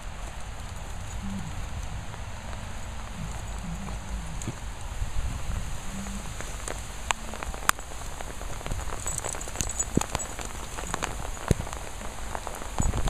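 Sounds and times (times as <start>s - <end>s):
heavy rain on grass: 0.0s - 13.0s
low rumble: 0.0s - 13.0s
raindrops tapping close by: 0.0s - 13.0s.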